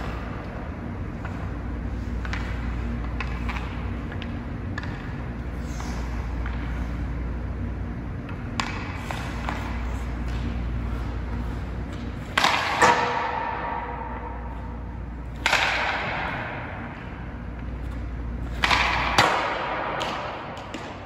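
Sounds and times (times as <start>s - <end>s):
steady low hum: 0.0s - 21.0s
hockey stick tapping pucks: 0.1s - 6.8s, 8.2s - 21.0s.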